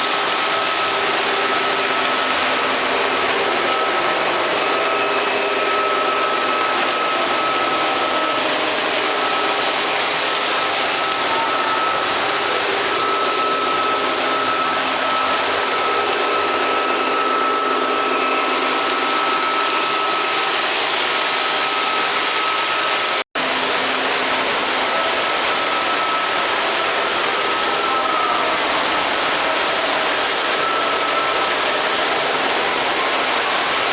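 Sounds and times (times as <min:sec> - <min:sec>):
model trains running on track: 0:00.0 - 0:33.9
thin high whine: 0:00.0 - 0:33.9.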